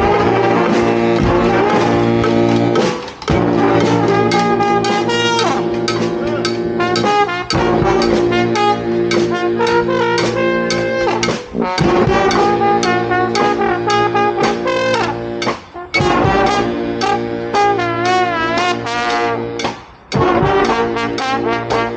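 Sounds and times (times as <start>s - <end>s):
brass horns holding notes: 0.0s - 21.9s
steady drum beat: 0.0s - 21.9s.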